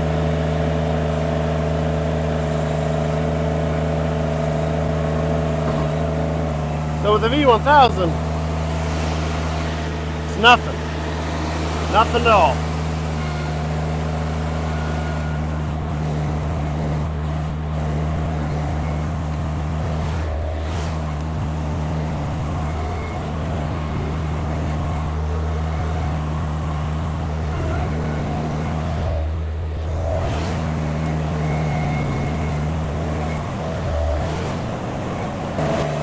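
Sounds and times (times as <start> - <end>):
skid steer engine running: 0.0 - 36.0.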